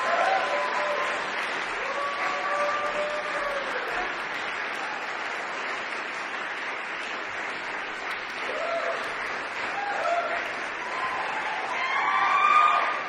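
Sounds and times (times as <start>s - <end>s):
audience applauding: 0.0s - 13.0s
audience cheering: 0.0s - 13.0s.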